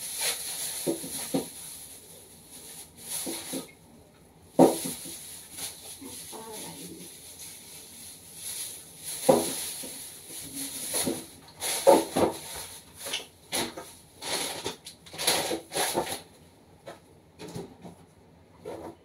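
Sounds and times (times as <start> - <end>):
rustling: 0.0 - 3.8, 4.6 - 16.2.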